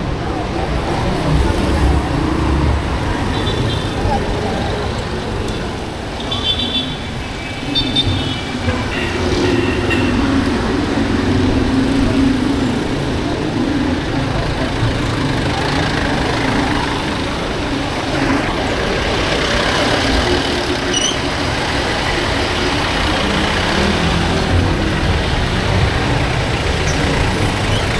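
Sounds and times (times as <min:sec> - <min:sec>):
motorcycle and car engines: 0:00.0 - 0:27.9
street traffic: 0:00.0 - 0:27.9.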